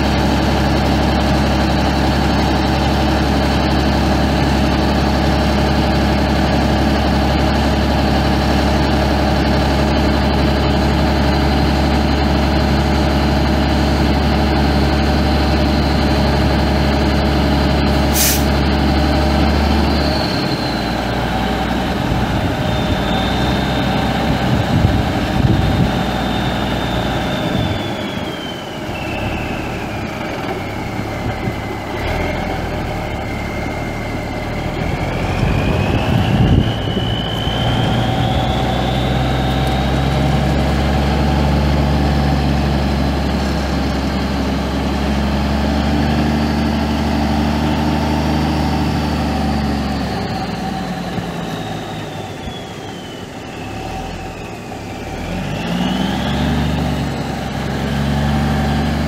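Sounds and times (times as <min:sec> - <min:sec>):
diesel truck engine running: 0:00.0 - 0:59.0
turbo whine: 0:07.2 - 0:59.0.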